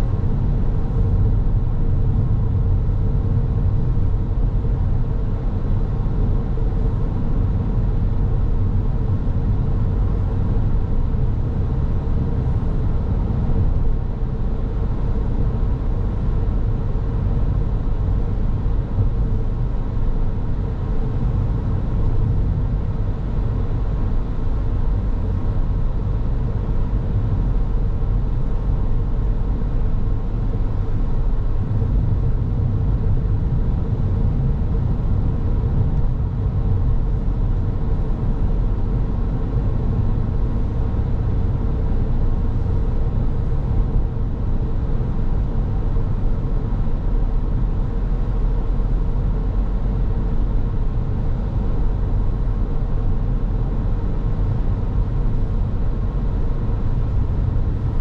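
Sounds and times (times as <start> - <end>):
car driving on road: 0.0 - 58.0
faint steady hum: 0.0 - 58.0.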